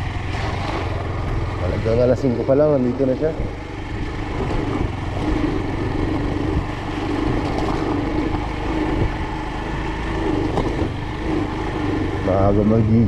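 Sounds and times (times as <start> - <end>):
road and wind noise: 0.0 - 13.0
vehicle engine running: 0.0 - 13.0.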